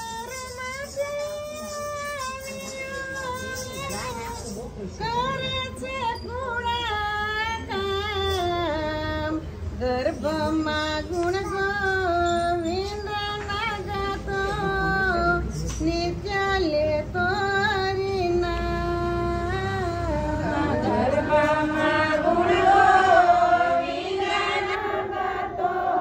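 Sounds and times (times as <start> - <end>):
woman singing: 0.0 - 4.2, 5.0 - 25.7.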